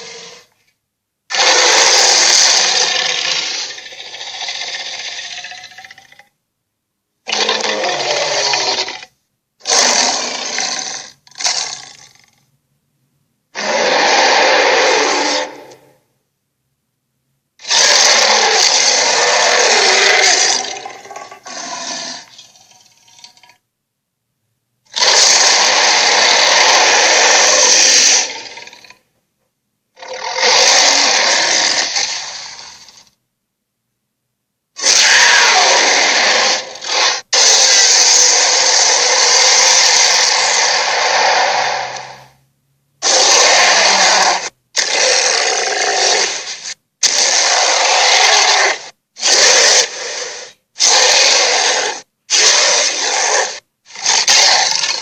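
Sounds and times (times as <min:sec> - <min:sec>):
sea serpent harsh rasping bursts: 0:00.0 - 0:00.5, 0:01.3 - 0:06.1, 0:07.3 - 0:12.2, 0:13.6 - 0:15.7, 0:17.6 - 0:23.1, 0:24.9 - 0:28.9, 0:30.0 - 0:33.1, 0:34.8 - 0:42.4, 0:43.0 - 0:55.0.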